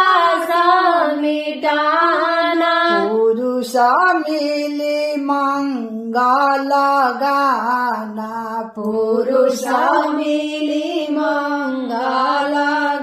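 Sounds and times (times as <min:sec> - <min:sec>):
woman singing devotional song: 0:00.0 - 0:07.9, 0:08.7 - 0:13.0.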